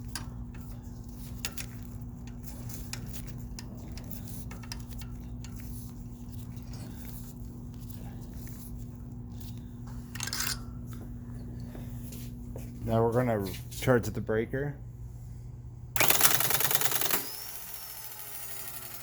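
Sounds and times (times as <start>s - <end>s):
steady electrical hum: 0.0s - 16.1s.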